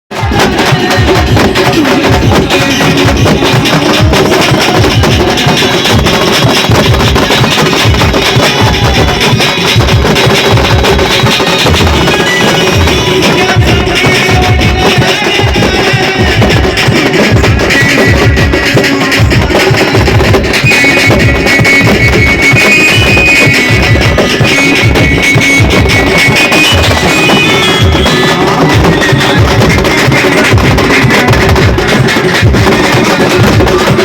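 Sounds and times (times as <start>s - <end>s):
frame drums beaten with sticks: 0.1s - 34.0s.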